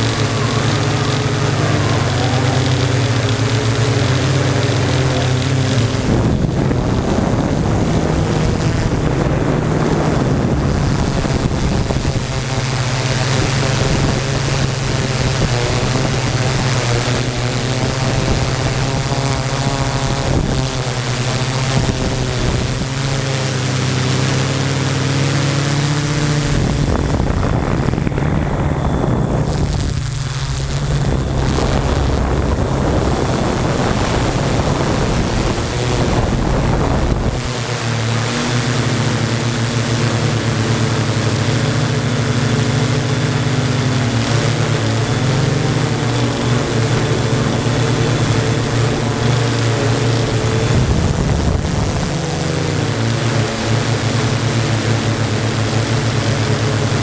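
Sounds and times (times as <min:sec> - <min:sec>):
drone motors buzzing: 0:00.0 - 0:57.0.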